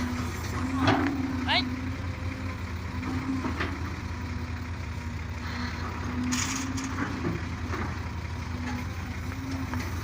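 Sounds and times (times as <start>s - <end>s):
diesel earthmoving machinery running: 0.0s - 10.0s.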